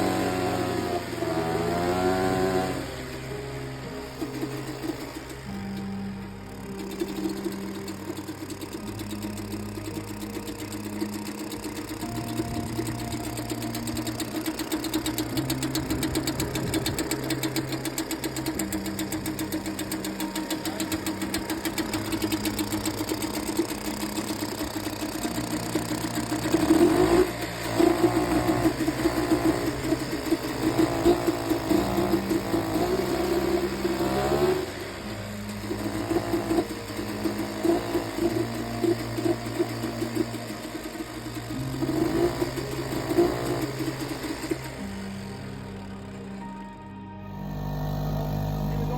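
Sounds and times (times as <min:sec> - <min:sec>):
outboard engine popping: 0:00.0 - 0:48.9.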